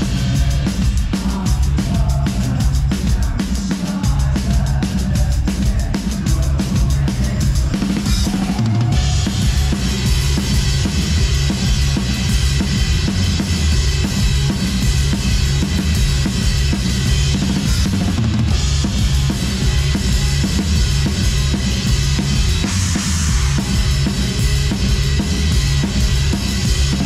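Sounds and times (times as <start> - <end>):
rock drum kit beat: 0.0 - 27.0.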